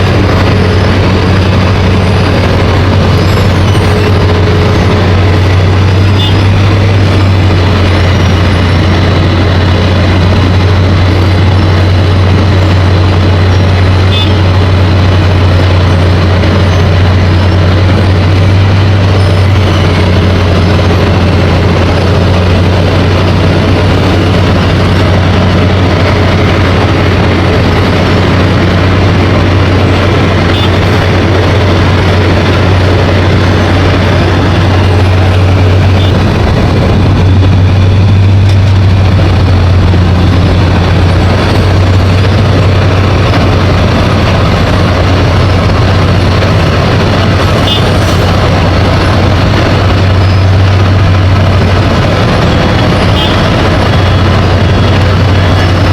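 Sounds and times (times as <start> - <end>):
road construction machinery rumbling: 0.0 - 55.9.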